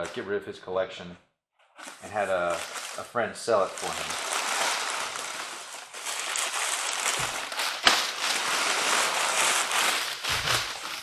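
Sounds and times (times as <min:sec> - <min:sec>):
packing paper rustling: 0:01.8 - 0:11.0.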